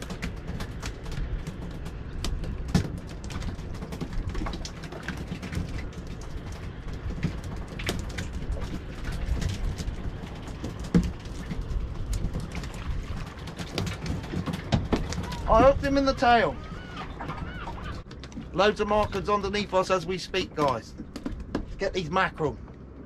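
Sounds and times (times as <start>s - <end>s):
water slapping against boat: 0.0s - 22.9s
wind rumbling on microphone: 0.0s - 23.0s.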